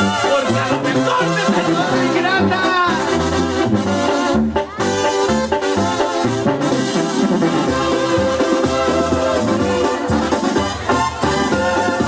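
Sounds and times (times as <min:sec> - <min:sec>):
brass dance music over speakers: 0:00.0 - 0:12.0.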